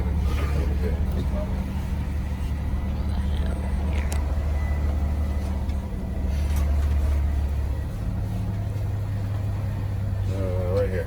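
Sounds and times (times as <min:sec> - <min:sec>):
bus engine droning: 0:00.0 - 0:11.0.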